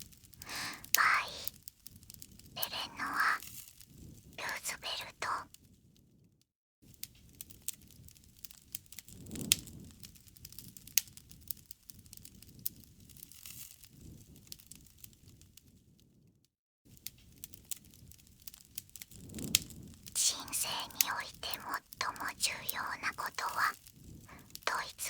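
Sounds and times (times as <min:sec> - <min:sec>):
campfire crackling and popping: 0:00.0 - 0:05.2, 0:06.9 - 0:15.7, 0:16.9 - 0:25.0.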